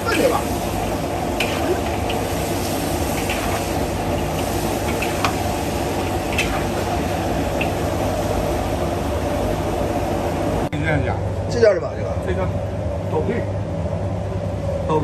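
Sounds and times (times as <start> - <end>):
restaurant kitchen rumble: 0.0 - 15.0.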